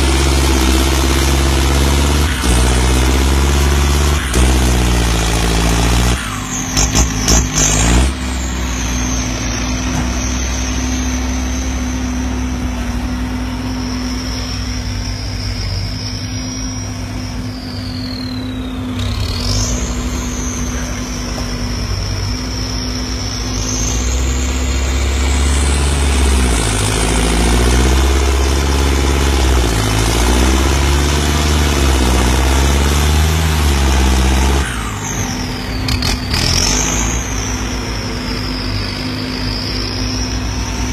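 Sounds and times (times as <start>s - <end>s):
diesel tractor engine under load: 0.0s - 40.9s
turbo whistle: 0.0s - 40.9s.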